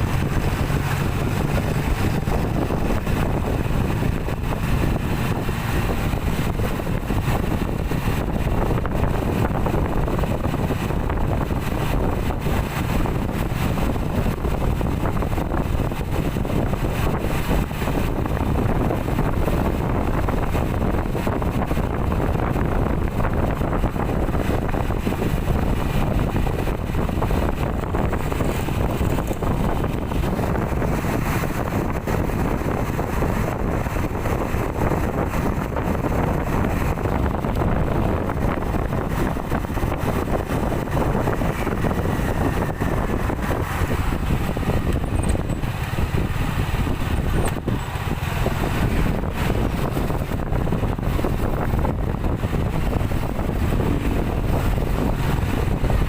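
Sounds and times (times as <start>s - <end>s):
street traffic and engine noise: 0.0s - 56.0s
wind rumbling on microphone: 0.0s - 56.0s.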